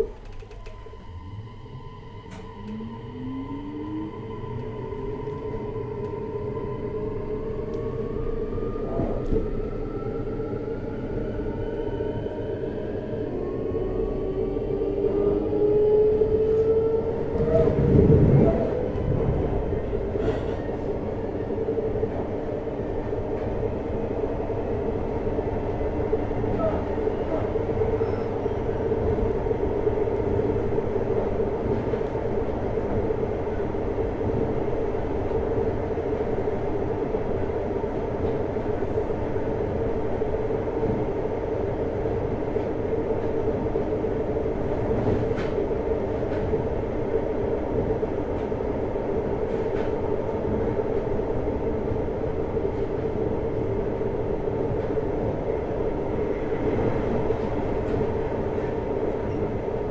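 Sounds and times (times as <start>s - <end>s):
electric train rumbling: 0.0s - 59.9s.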